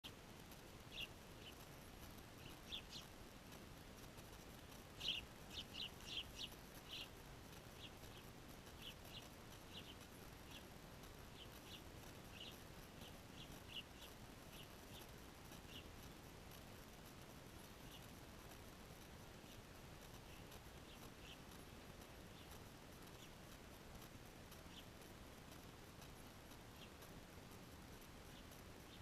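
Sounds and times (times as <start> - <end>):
faint outdoor hiss: 0.0 - 29.0
small birds chirping: 0.0 - 29.0.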